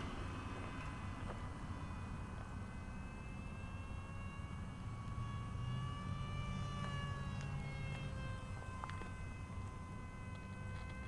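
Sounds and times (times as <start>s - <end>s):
model plane motor whine: 0.0s - 11.0s.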